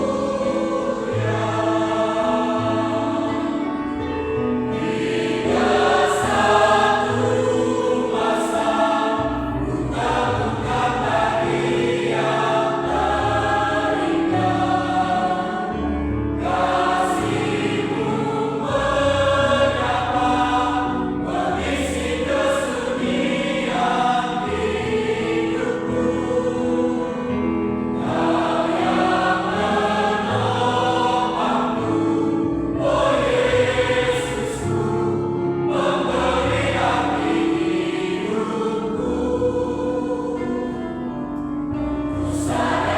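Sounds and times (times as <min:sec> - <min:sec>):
low instrumental accompaniment: 0:00.0 - 0:42.9
mixed choir singing a hymn: 0:00.0 - 0:42.9.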